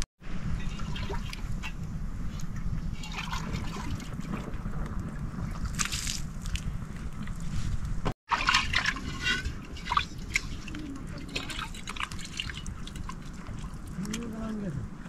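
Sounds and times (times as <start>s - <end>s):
water trickling and splashing: 0.5s - 7.6s, 8.3s - 14.8s.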